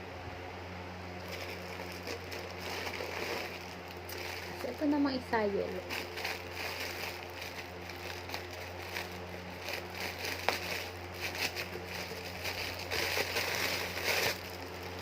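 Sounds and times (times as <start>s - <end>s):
steady low hum: 0.0s - 15.0s
plush toy rustling and crackling: 1.2s - 15.0s.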